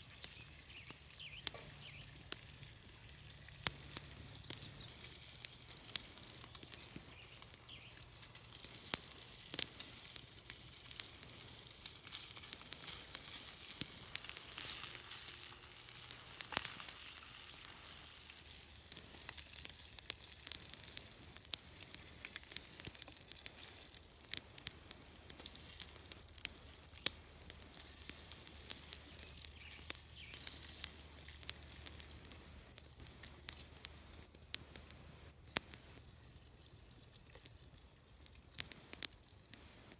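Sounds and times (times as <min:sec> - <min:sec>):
bacon sizzling: 0:00.0 - 0:32.2.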